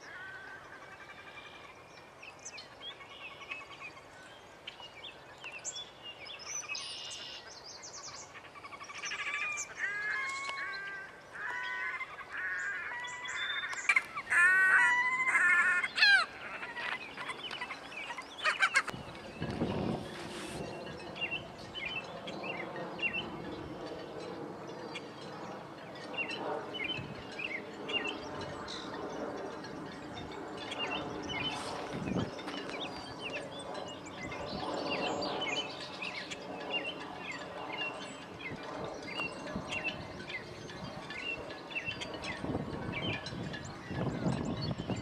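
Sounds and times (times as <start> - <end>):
low drawn-out bird calls: 0.0 - 45.0
small birds chirping: 0.0 - 45.0.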